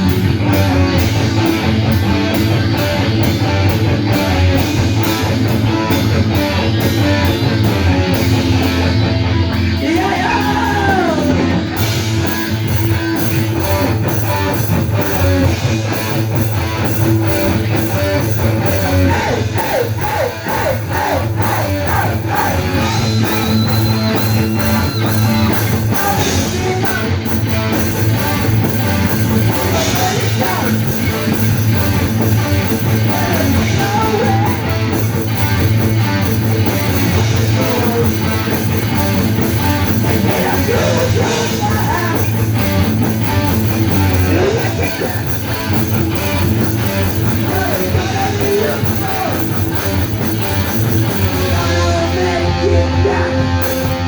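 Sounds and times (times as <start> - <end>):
distorted electric guitar: 0.0 - 54.0
drums keeping a steady beat: 0.0 - 54.0.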